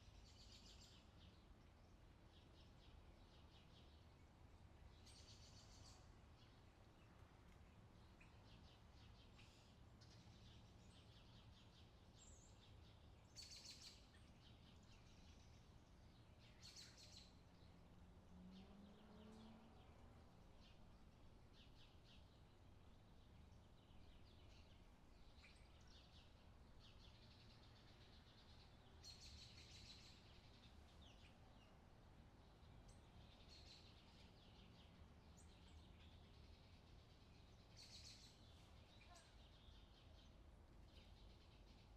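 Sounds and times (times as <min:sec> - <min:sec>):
low steady background rumble: 0:00.0 - 0:41.9
small birds chirping and twittering: 0:00.0 - 0:41.9.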